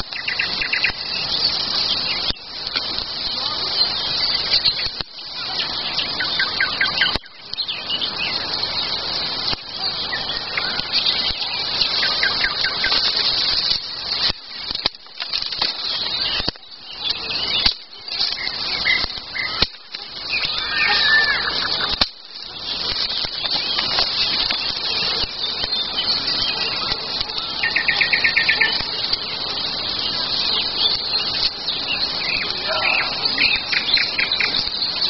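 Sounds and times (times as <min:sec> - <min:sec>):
songbirds chirping: 0:00.0 - 0:35.0
steady rushing noise: 0:00.0 - 0:35.0.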